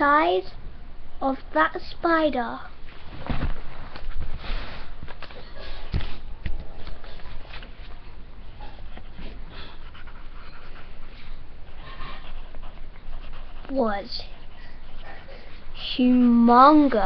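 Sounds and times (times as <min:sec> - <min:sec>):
rustling and shuffling: 0:02.1 - 0:17.0.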